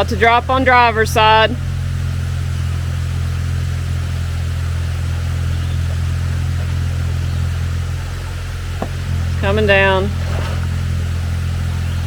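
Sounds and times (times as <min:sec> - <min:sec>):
off-road vehicle engine low revs: 0:00.0 - 0:12.0.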